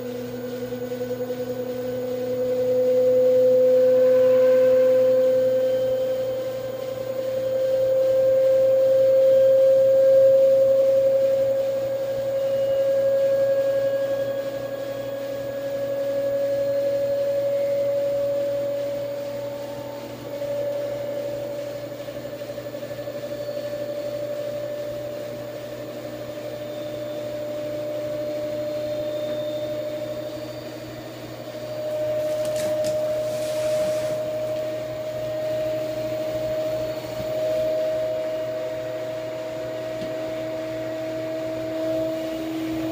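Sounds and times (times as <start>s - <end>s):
washing machine spin whine: 0.0s - 42.9s.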